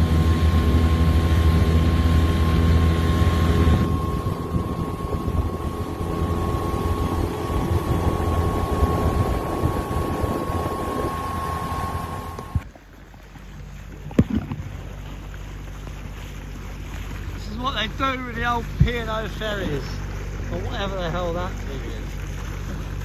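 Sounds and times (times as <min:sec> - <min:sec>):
outboard motor running: 0:00.0 - 0:23.0
water and wind rushing: 0:00.0 - 0:23.0.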